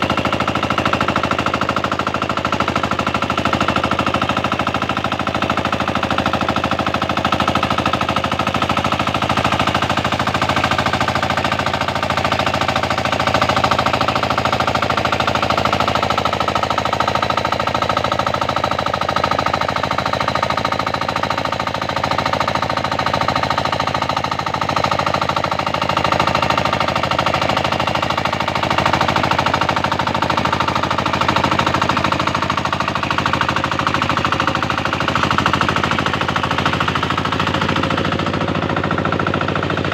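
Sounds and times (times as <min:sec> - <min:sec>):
tractor engine pulsing: 0:00.0 - 0:39.9.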